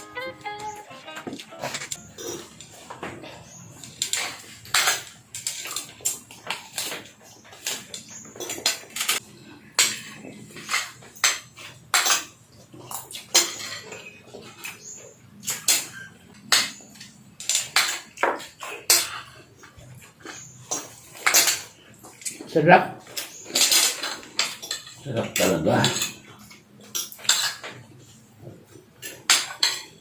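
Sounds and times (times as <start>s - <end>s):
cutlery clinking on dishes: 1.5s - 22.4s, 23.1s - 28.2s, 29.0s - 30.0s.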